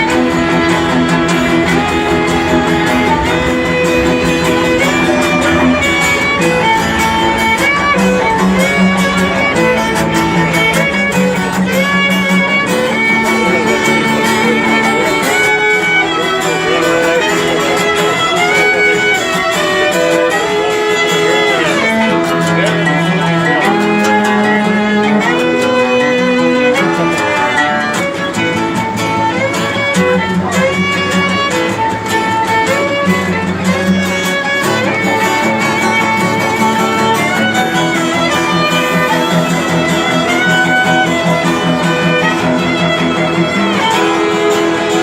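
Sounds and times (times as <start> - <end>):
low string accompaniment: 0.0 - 45.0
violin melody: 0.0 - 45.0.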